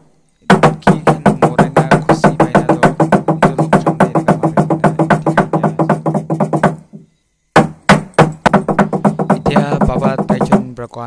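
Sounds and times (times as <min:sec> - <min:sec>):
log drum beaten fast: 0:00.4 - 0:07.0, 0:07.6 - 0:10.8.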